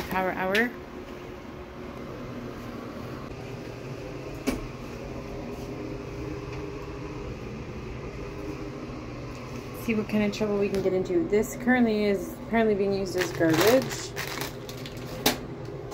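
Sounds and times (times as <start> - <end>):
household machine humming: 0.0 - 15.9.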